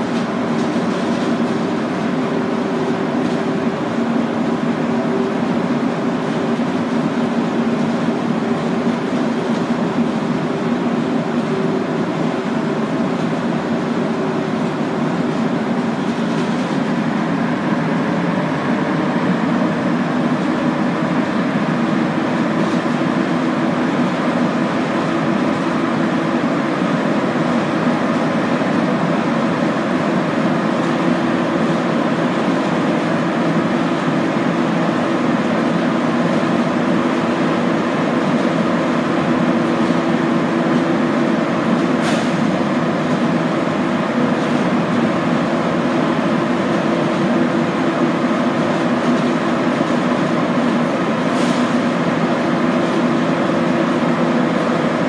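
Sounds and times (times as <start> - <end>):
metro train rumble: 0.0 - 55.0.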